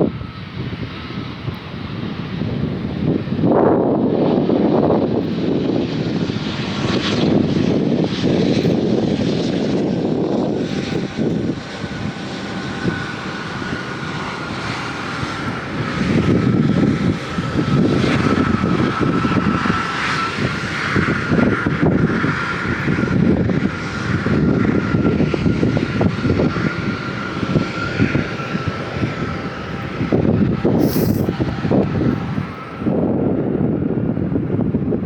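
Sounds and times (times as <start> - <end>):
airliner engines whining: 0.0 - 35.0
wind buffeting microphone: 0.0 - 35.0.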